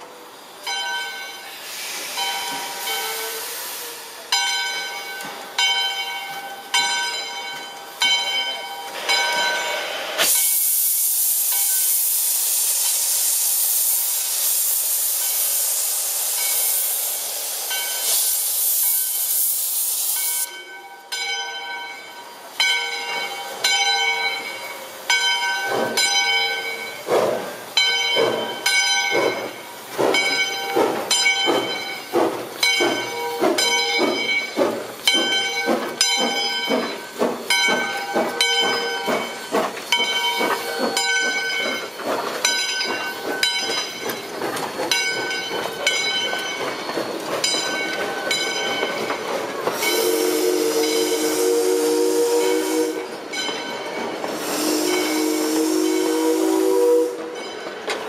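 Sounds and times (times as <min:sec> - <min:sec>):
steam locomotive exhaust chuffs: 0:00.0 - 0:05.5, 0:08.9 - 0:20.6, 0:22.7 - 0:58.0
loud steam hiss: 0:00.0 - 0:06.7, 0:08.8 - 0:20.7, 0:22.2 - 0:57.4
locomotive bell ringing: 0:00.6 - 0:10.6, 0:17.7 - 0:18.2, 0:20.1 - 0:58.0.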